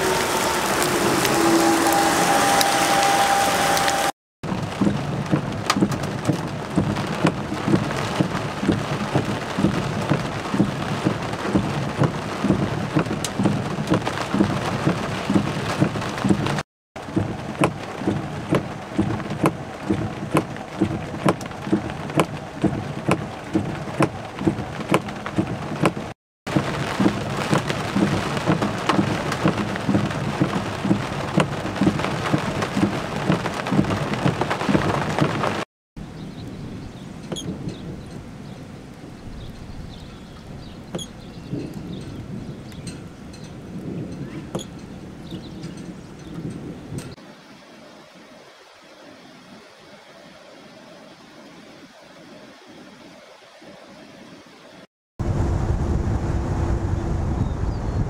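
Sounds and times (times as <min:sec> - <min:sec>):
heavy rain pouring on pavement: 0:00.0 - 0:35.7, 0:36.4 - 0:53.6
raindrops tapping close by: 0:00.0 - 0:47.2.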